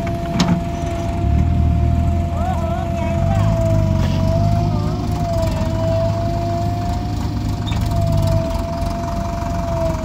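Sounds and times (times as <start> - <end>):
diesel engine rumble: 0.0 - 10.0.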